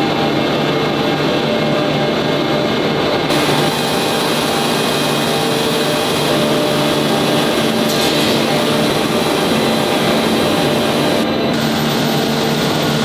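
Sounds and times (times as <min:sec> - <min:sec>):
heavy machinery drone: 0:00.0 - 0:13.0.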